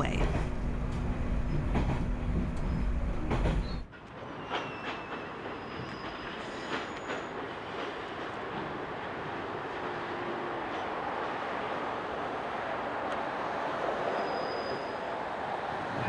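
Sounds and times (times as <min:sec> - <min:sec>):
train running on rails: 0:00.0 - 0:16.0.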